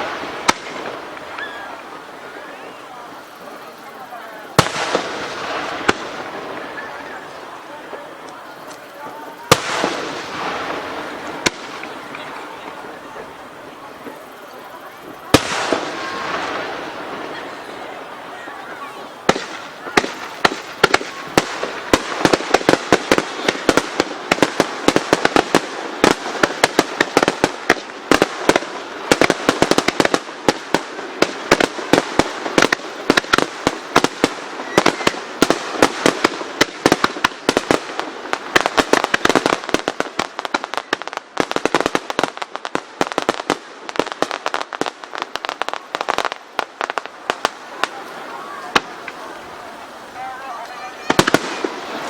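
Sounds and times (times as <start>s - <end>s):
fireworks crackle: 0.0s - 52.0s.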